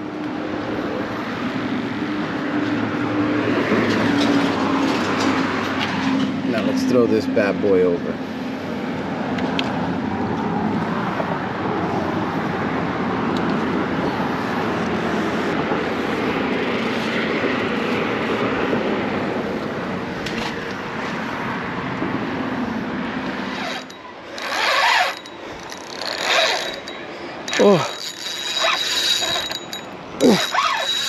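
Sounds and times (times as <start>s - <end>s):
road traffic rushing: 0.0s - 31.0s.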